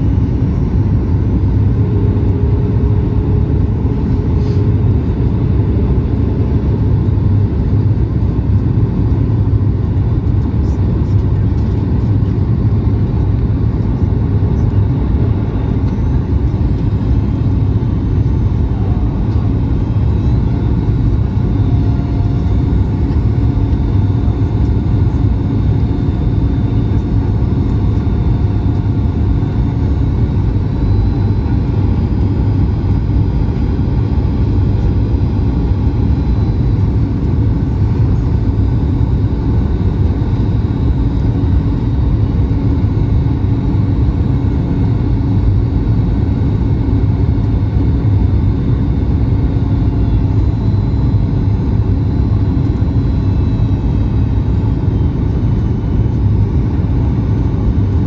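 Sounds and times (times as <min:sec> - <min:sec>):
airliner cabin rumble: 0:00.0 - 0:58.0
faint steady whine: 0:00.0 - 0:58.0.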